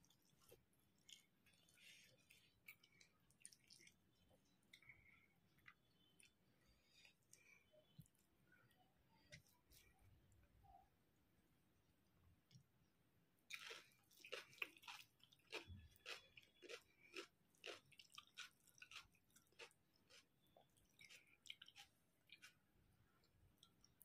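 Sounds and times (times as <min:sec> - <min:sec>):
person chewing food: 0:00.0 - 0:08.8, 0:13.5 - 0:24.0.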